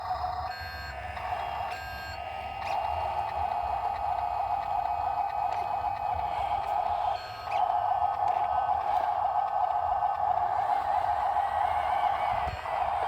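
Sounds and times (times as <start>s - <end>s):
reversing alarm beep: 0.1s - 9.8s, 10.4s - 13.0s.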